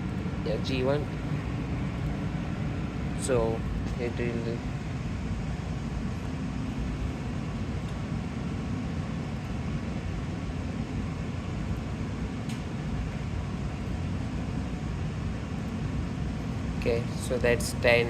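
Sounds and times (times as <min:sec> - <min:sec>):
low rumbling hum: 0:00.0 - 0:18.0.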